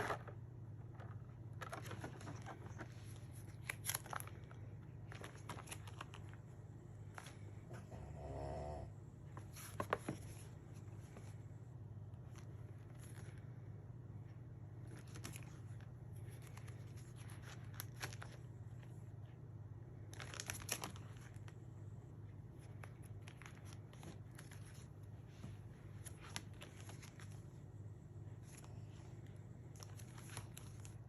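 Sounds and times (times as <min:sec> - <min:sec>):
paper rustling: 0:00.0 - 0:07.6, 0:09.4 - 0:11.5, 0:12.2 - 0:13.7, 0:14.8 - 0:19.1, 0:20.0 - 0:21.6, 0:22.3 - 0:31.0.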